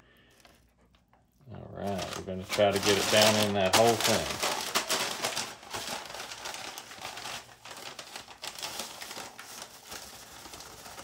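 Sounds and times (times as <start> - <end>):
paper bag rustling and crinkling: 1.5 - 11.0.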